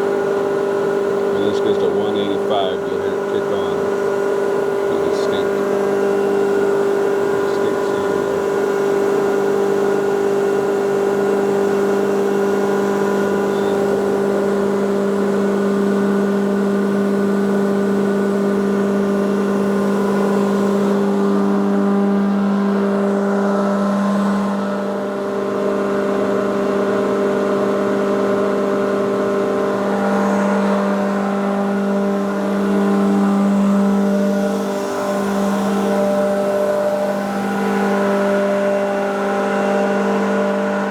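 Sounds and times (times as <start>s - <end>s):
air compressor humming: 0.0s - 40.9s.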